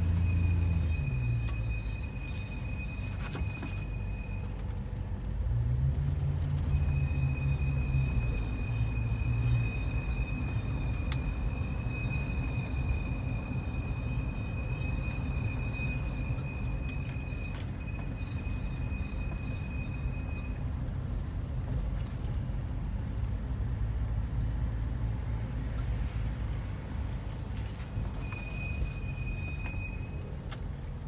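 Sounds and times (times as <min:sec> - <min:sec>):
car rumble: 0:00.0 - 0:31.0.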